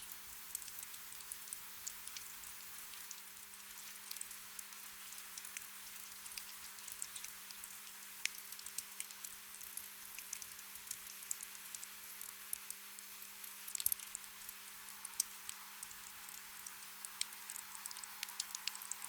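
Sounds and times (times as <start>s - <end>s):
gentle rain hiss: 0.0s - 19.0s
raindrops pattering: 0.0s - 19.0s.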